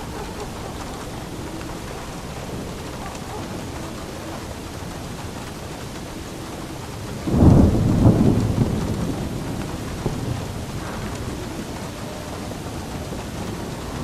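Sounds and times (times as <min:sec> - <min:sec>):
steady rain: 0:00.0 - 0:14.0
thunder clap rumbling: 0:00.0 - 0:14.0.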